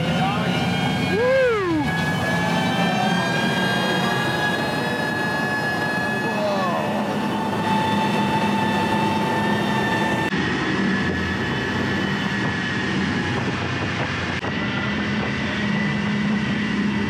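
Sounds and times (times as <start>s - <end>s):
outboard engines droning with whine: 0.0s - 17.0s.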